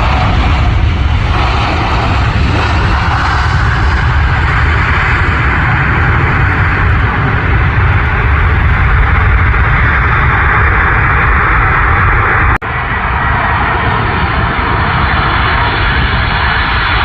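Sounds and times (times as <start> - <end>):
aircraft engines roaring: 0.0 - 17.0.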